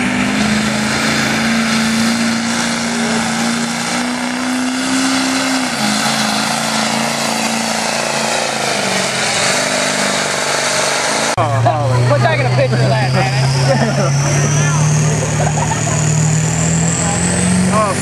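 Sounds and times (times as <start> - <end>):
diesel truck engine at full throttle: 0.0 - 18.0.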